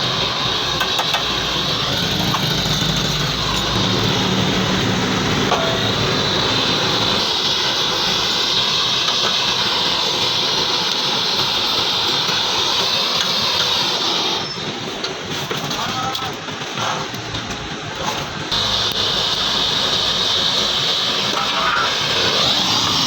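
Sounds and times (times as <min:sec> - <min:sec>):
machine hiss and hum: 0:00.0 - 0:23.0.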